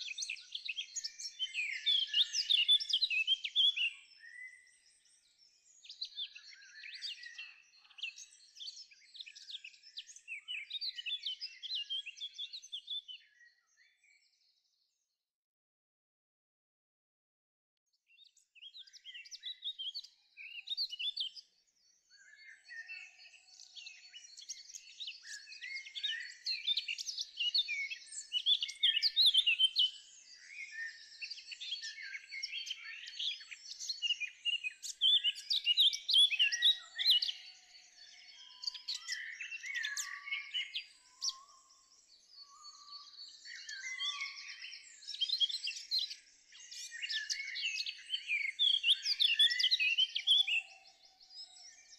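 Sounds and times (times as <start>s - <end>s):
birds chirping and singing: 0.0s - 14.8s, 18.1s - 51.9s.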